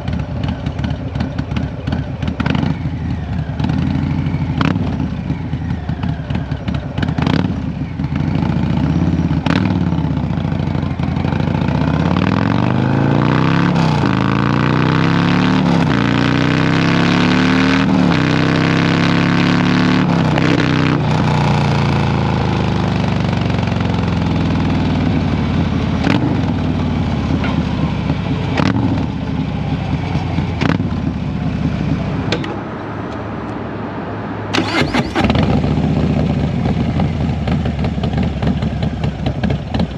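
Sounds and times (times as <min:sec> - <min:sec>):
motorcycle engine accelerating: 0:00.0 - 0:33.2, 0:34.5 - 0:39.9.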